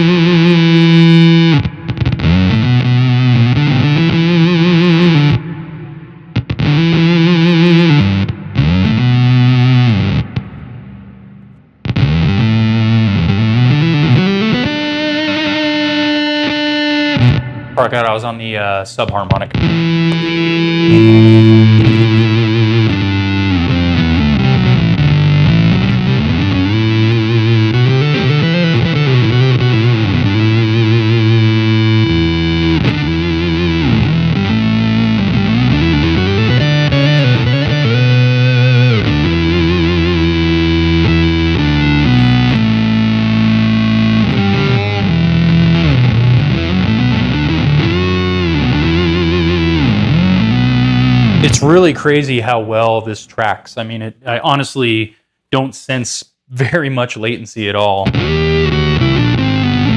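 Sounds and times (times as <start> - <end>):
fuzzy synth electric guitar: 0.0 - 18.2, 19.3 - 52.4, 58.0 - 59.9.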